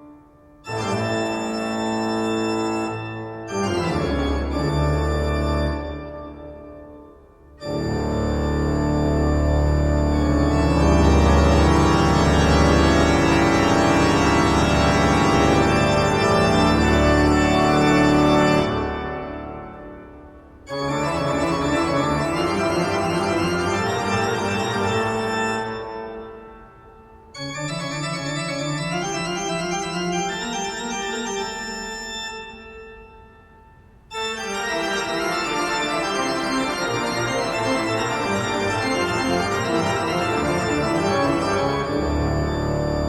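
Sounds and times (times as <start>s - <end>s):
keyboard music with organ chords: 0.0s - 43.0s.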